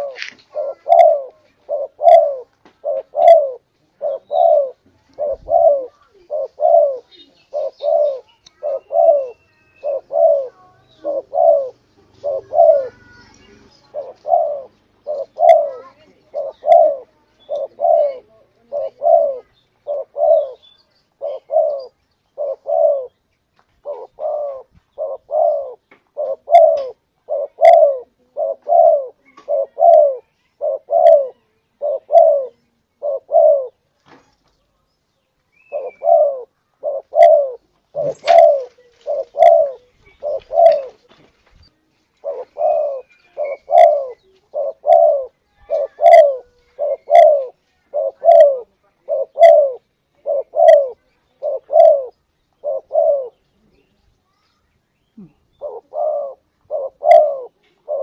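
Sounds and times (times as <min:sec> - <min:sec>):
dove cooing: 0:00.0 - 0:23.2, 0:23.8 - 0:33.9, 0:35.6 - 0:41.2, 0:42.1 - 0:53.9, 0:55.2 - 0:58.0.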